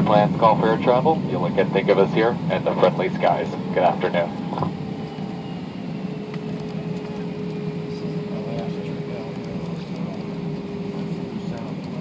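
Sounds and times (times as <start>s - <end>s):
jet engine hum in cabin: 0.0s - 12.0s.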